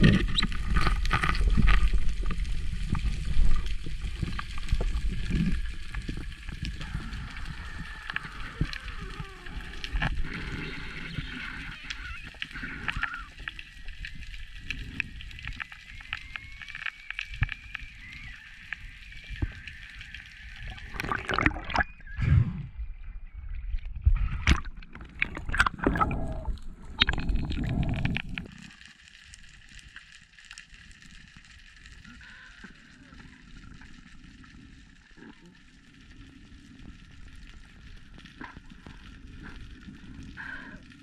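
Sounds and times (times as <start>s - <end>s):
underwater gurgling and sloshing: 0.0s - 41.0s.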